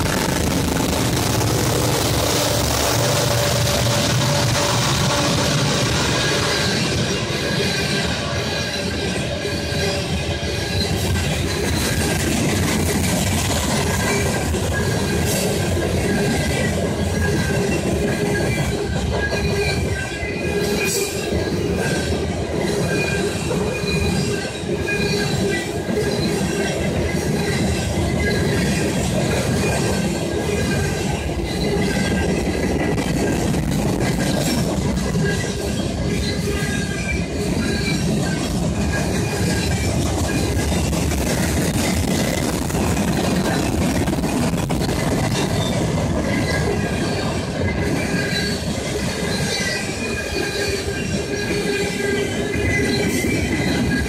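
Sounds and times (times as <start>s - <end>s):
train clanks: 0.0s - 54.0s
train wheels rumbling on rail: 0.0s - 54.0s
wheel squeal: 0.1s - 13.2s, 13.8s - 54.0s.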